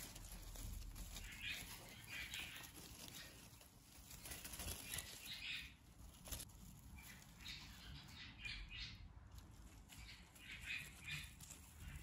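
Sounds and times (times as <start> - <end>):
birds rustling among flowers: 0.0 - 12.0.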